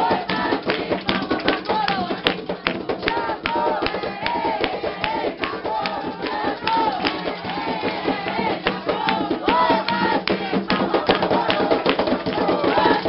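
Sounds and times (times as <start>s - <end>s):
sharp rhythmic percussion: 0.0s - 13.0s
voices singing a chant: 0.0s - 13.0s.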